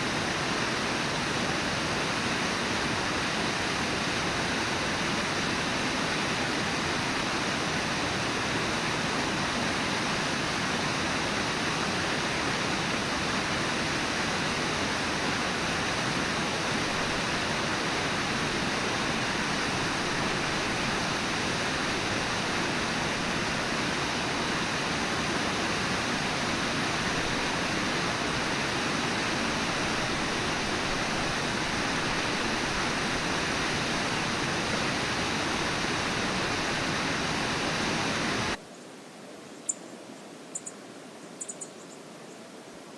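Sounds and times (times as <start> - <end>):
flowing river water: 0.0 - 42.9.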